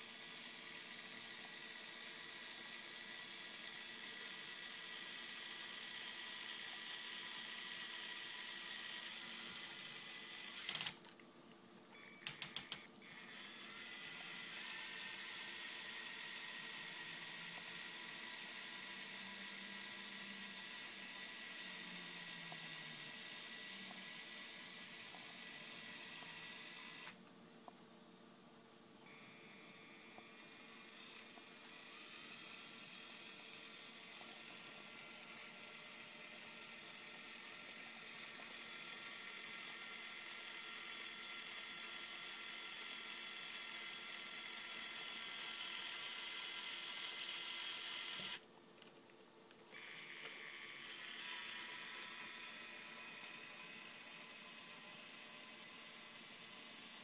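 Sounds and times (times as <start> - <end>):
toy electric motor whirring: 0.0 - 11.1, 12.0 - 27.2, 29.0 - 48.4, 49.7 - 57.0.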